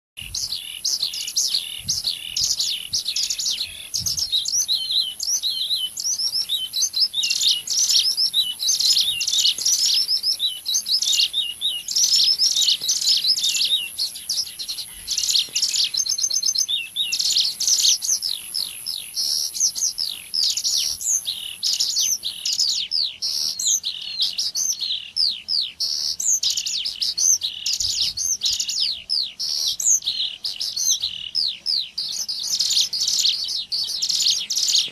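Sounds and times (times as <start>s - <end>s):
songbird chirping rapidly: 0.2s - 34.9s.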